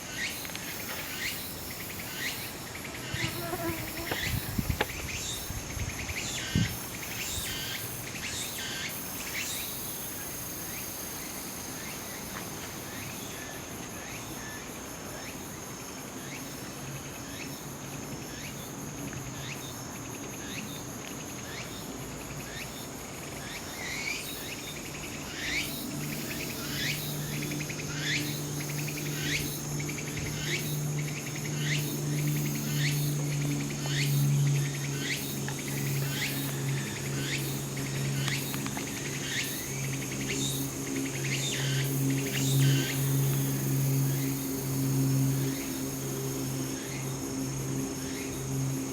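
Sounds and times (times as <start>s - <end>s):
high-pitched insect drone: 0.0s - 14.6s, 15.2s - 48.9s
cicada singing rhythmic phrase: 0.0s - 48.9s.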